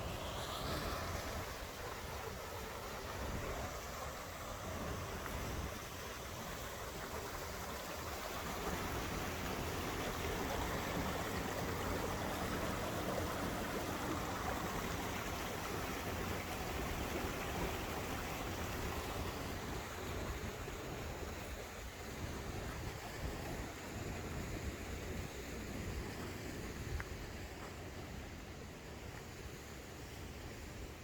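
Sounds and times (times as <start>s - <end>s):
stream flowing: 0.0s - 31.0s.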